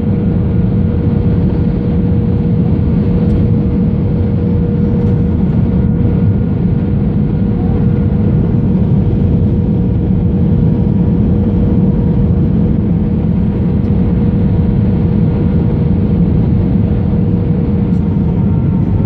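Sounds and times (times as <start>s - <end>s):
airliner engine roar: 0.0s - 19.0s
constant hum: 0.0s - 19.0s.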